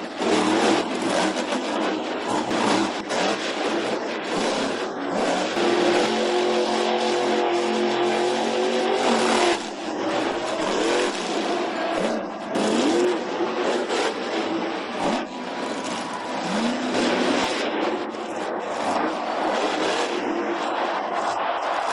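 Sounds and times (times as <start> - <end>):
truck engine revving: 0.0 - 21.9.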